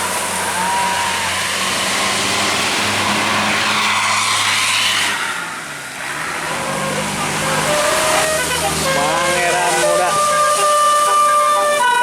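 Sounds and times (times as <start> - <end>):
vehicle engine drone: 0.0 - 11.9
tyre and road noise: 0.0 - 12.0.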